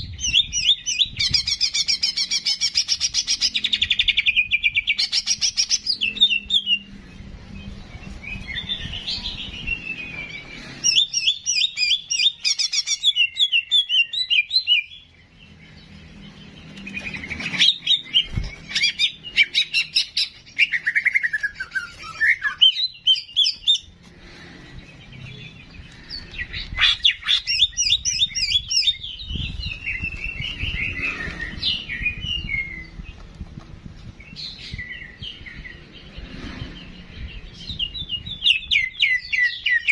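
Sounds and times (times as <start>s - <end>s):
bird chattering song: 0.0s - 33.3s.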